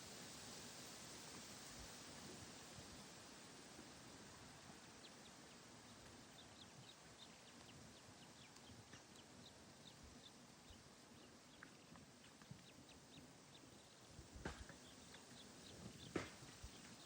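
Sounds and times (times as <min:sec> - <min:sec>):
soft background hiss: 0:00.0 - 0:17.0
small birds chirping: 0:01.6 - 0:17.0.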